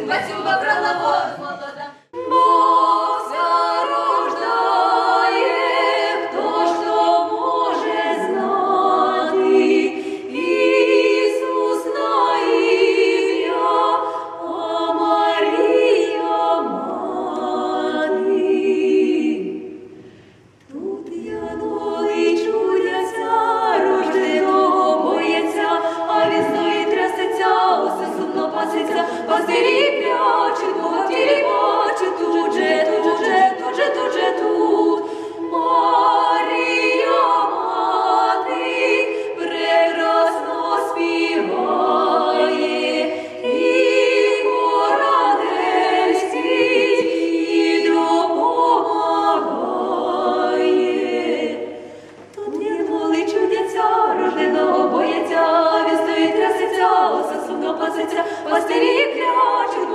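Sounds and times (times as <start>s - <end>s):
women singing in harmony: 0.0s - 59.9s.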